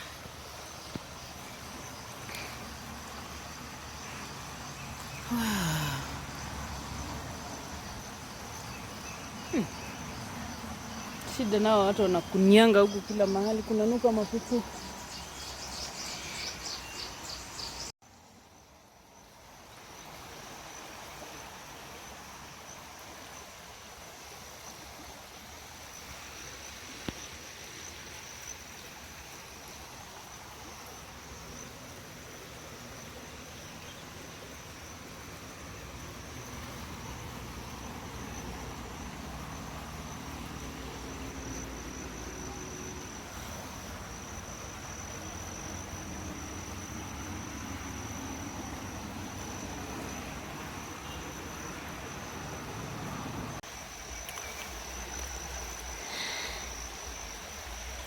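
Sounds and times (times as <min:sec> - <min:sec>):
insects chirring: 0:00.0 - 0:58.0
outdoor background noise: 0:00.0 - 0:58.0.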